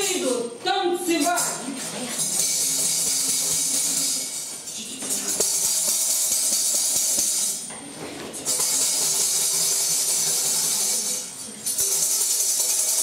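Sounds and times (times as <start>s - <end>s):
tambourine jingles shaken: 1.2s - 7.7s, 8.5s - 13.0s.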